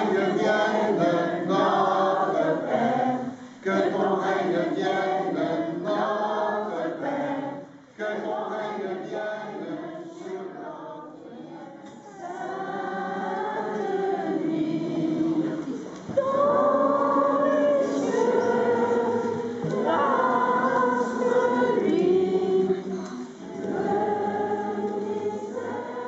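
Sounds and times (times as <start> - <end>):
group singing in church: 0.0 - 26.0.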